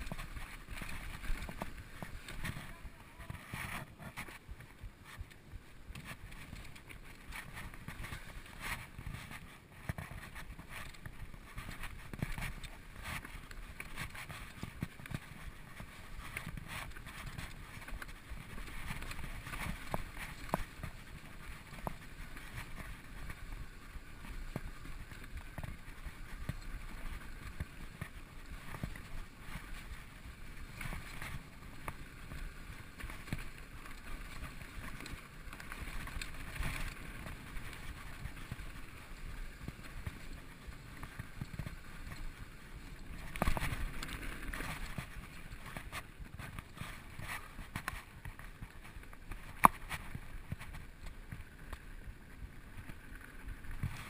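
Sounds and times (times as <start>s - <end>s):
bike knocking and rattling: 0.0s - 54.0s.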